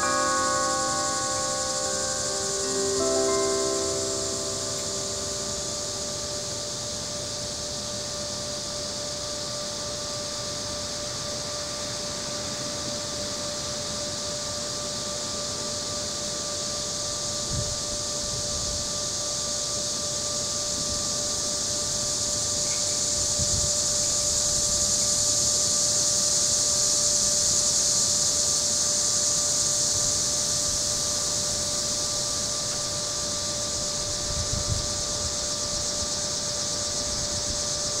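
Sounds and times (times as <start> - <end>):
cicadas droning: 0.0 - 38.0
faint steady tone: 0.0 - 38.0.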